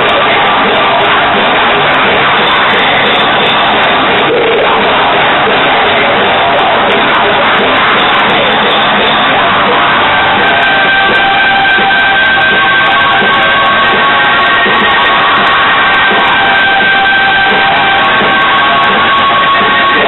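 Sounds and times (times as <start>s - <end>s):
held high notes: 0.0s - 20.0s
metal band playing: 0.0s - 20.0s.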